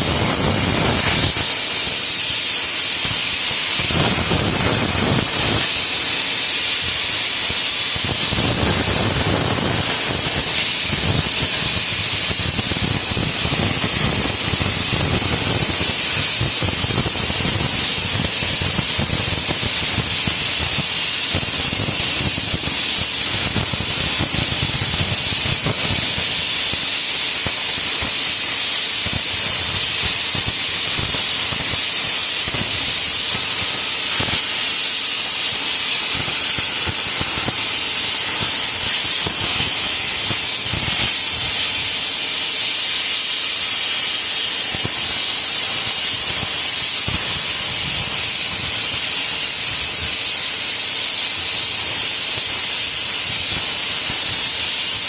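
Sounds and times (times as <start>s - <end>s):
compressed air hissing: 0.0s - 55.0s.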